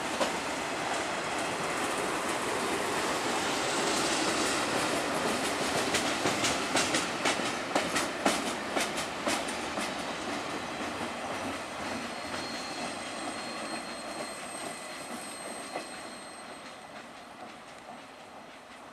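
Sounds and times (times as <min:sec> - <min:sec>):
train rolling on track: 0:00.0 - 0:18.9
train wheels clicking over rail joints: 0:00.0 - 0:18.9.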